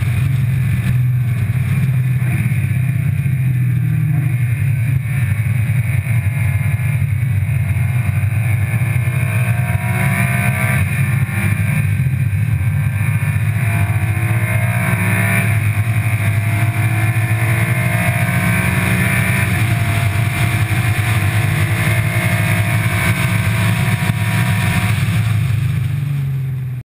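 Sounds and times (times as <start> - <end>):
car engine running hard: 0.0 - 26.8
road and wind noise: 0.0 - 26.8.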